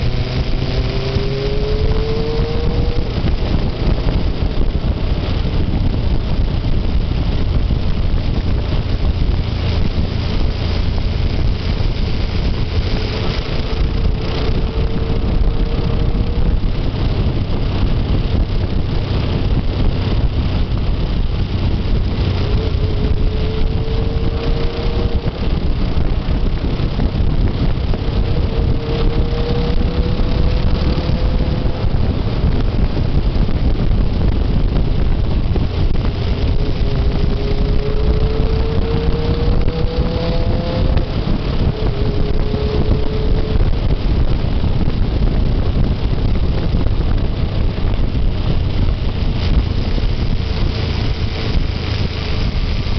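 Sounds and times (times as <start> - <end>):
faint motorcycle engine: 0.0 - 52.9
wind buffeting microphone: 0.0 - 52.9.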